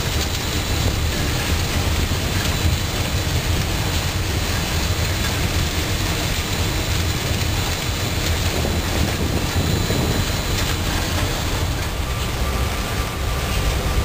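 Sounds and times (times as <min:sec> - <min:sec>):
machinery rumble with hiss: 0:00.0 - 0:14.0.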